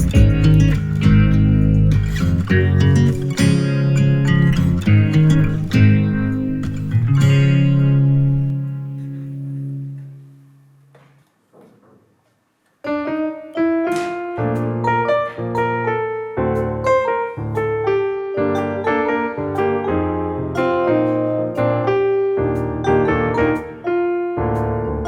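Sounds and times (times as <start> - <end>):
piano melody: 0.0 - 10.9, 12.8 - 25.0.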